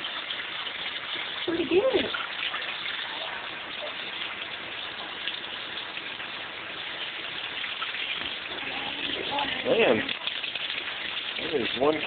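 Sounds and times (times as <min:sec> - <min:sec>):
tap water running and splashing: 0:00.0 - 0:12.0.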